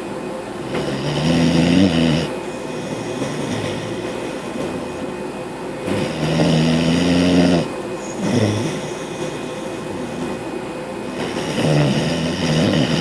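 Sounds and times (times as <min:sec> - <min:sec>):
air conditioner humming: 0:00.0 - 0:13.0
dog snoring: 0:00.6 - 0:13.0.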